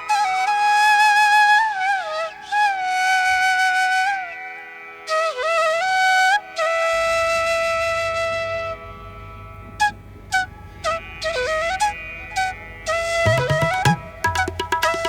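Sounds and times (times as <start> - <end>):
solo flute melody: 0.0 - 9.1, 9.7 - 15.0.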